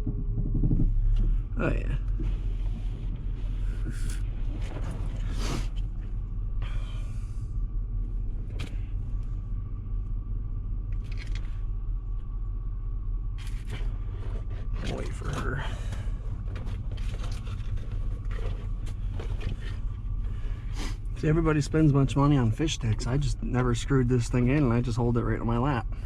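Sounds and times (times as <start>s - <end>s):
faint steady whine: 0.0s - 26.0s
vehicle engine droning: 0.0s - 26.0s.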